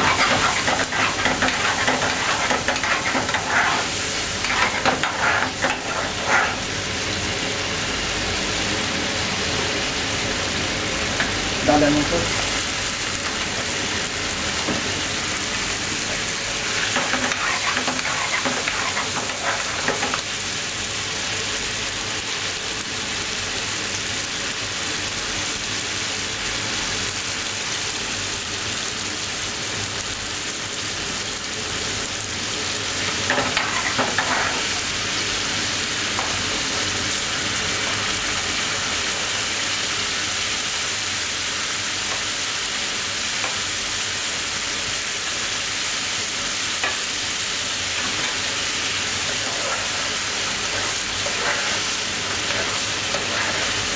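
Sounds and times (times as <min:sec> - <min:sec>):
curry sizzling in a pan: 0:00.0 - 0:53.9.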